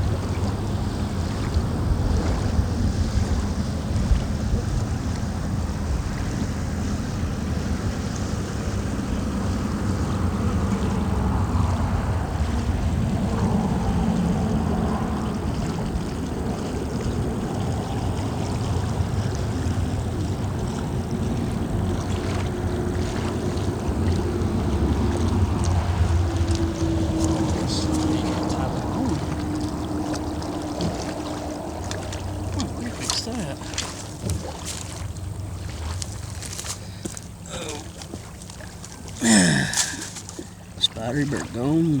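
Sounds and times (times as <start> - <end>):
wind on microphone: 0.0 - 36.6
flowing water rushing: 0.0 - 42.0.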